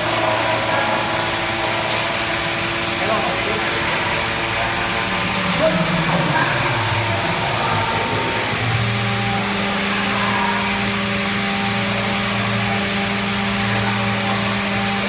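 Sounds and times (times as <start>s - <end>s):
drilling machine motor hum: 0.0s - 15.0s.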